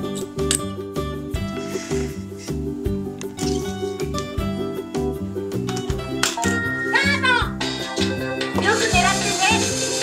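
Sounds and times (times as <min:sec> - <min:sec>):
cheerful music with steady beat: 0:00.0 - 0:10.0.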